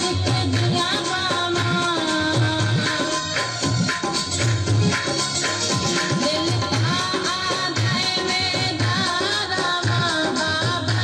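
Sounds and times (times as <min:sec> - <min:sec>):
rhythmic drum beat: 0:00.0 - 0:11.0.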